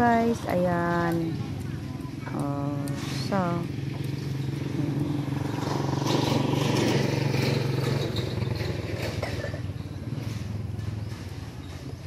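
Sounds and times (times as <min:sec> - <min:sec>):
motorcycle passing by: 0:00.0 - 0:12.0.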